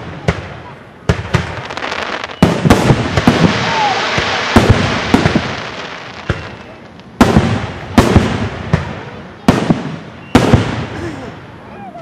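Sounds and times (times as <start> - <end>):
fireworks exploding: 0.0 - 11.7.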